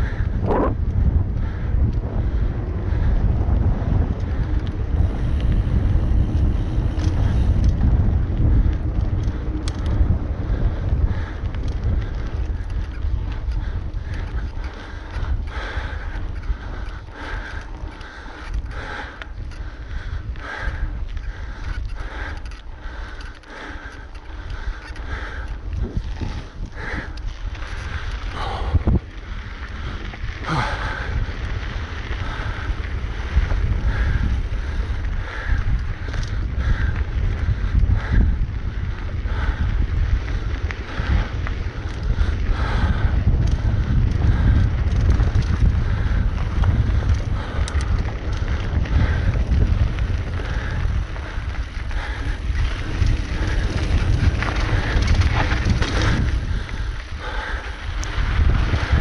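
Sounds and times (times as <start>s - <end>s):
bike tyre noise: 0.0s - 59.0s
wind rumbling on microphone: 0.0s - 59.0s.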